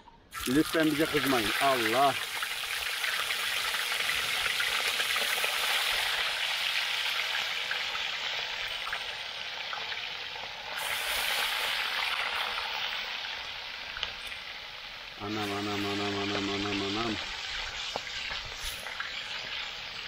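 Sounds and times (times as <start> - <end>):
fish sizzling in hot oil: 0.3 - 20.0.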